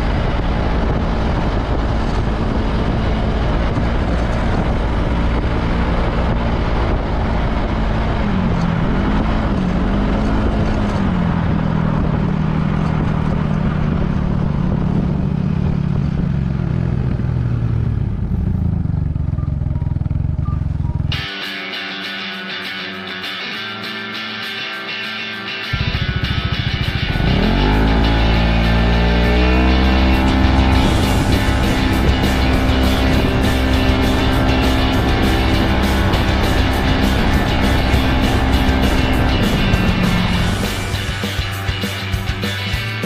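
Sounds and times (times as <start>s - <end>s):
heavy wind noise: 0.0s - 19.2s, 25.7s - 43.0s
scooter engine running: 0.0s - 21.3s, 25.6s - 43.0s.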